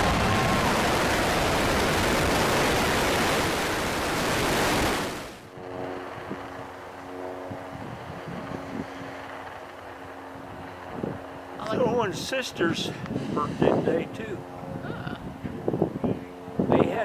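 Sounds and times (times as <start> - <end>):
rocket engines roaring: 0.0 - 17.0.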